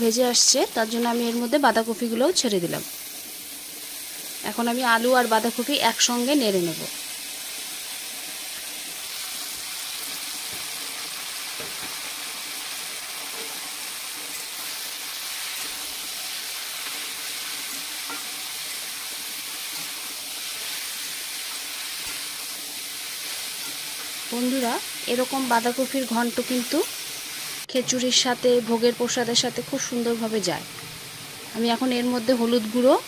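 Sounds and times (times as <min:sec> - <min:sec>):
vegetables sizzling in oil: 0:00.0 - 0:33.0.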